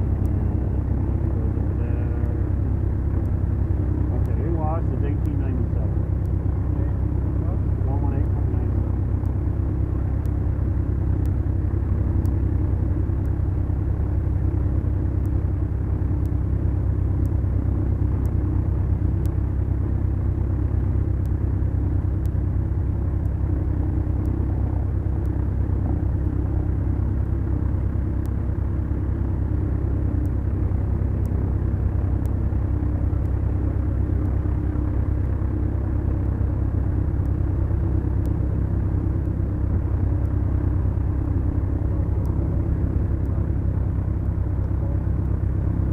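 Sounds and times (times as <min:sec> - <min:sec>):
aircraft engines droning in cabin: 0:00.0 - 0:45.9.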